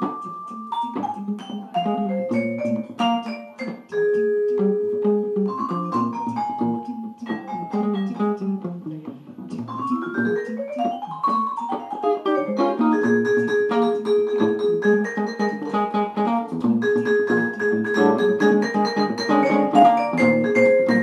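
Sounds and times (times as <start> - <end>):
band playing instrumental piece: 0.0 - 8.4, 9.8 - 21.0.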